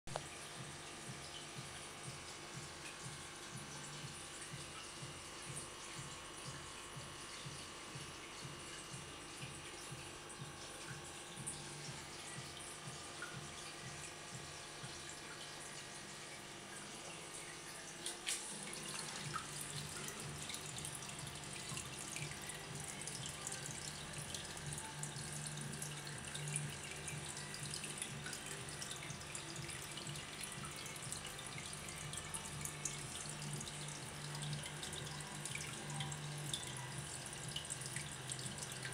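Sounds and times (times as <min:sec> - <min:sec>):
aquarium water bubbling: 0:00.1 - 0:38.9
low steady hum: 0:00.1 - 0:38.9.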